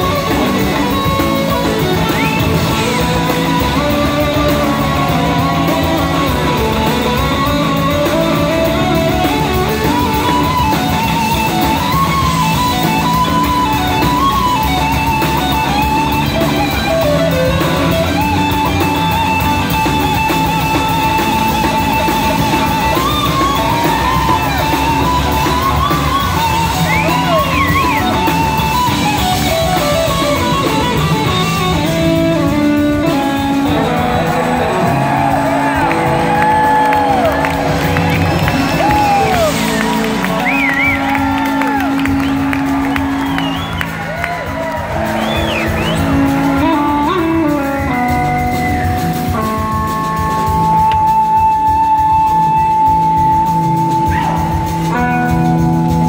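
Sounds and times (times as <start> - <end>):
drums: 0.0 - 56.0
second electric guitar: 0.0 - 56.0
slide electric guitar: 0.0 - 56.0.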